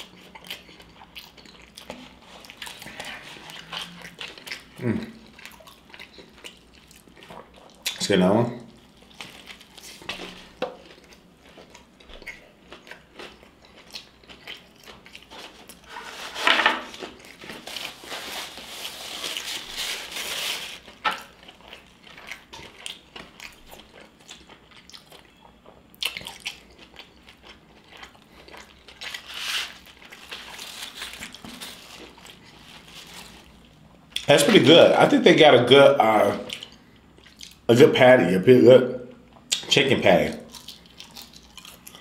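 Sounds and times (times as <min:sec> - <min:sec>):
person chewing: 0:00.0 - 0:08.0, 0:08.7 - 0:16.3, 0:16.9 - 0:34.7, 0:36.2 - 0:37.7, 0:40.5 - 0:42.0.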